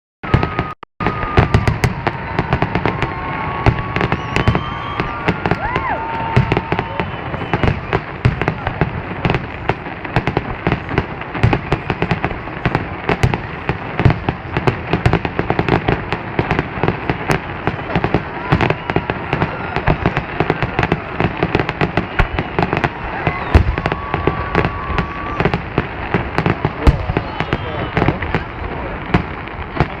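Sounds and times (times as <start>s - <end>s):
fireworks bangs and crackling: 0.2s - 30.0s
fireworks whistling: 0.2s - 30.0s.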